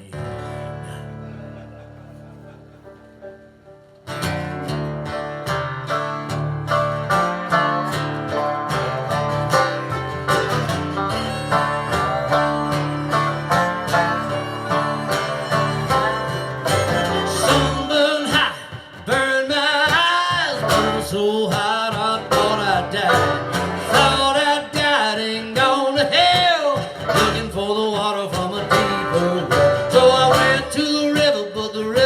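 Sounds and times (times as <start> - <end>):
plucked string instruments: 0.0 - 32.0.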